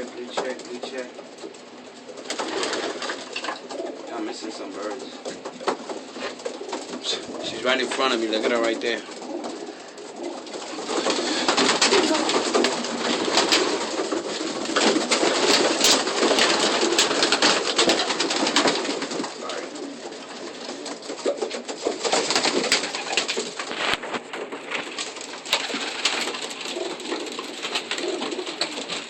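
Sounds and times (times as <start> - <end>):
pigeon wings flapping: 0.0 - 29.0
pigeons cooing: 0.0 - 29.0.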